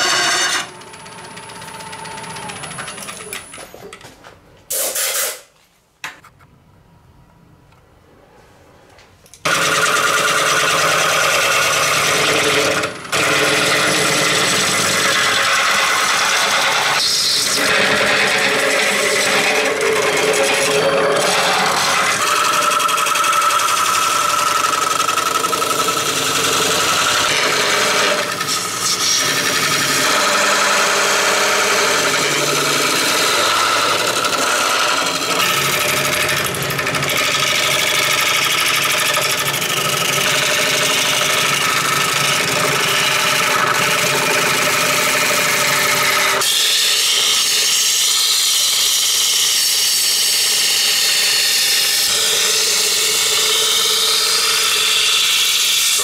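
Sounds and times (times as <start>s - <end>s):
tool scraping and cutting: 0.0s - 0.7s, 9.4s - 56.0s.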